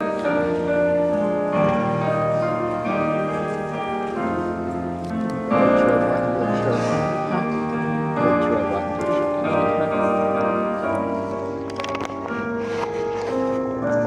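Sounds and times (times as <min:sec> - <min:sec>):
keyboard playing held chords: 0:00.0 - 0:14.0.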